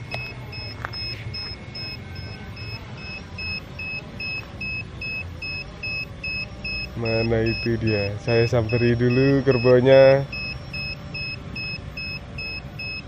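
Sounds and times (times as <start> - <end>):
two-tone warning beeps: 0.0 - 13.0.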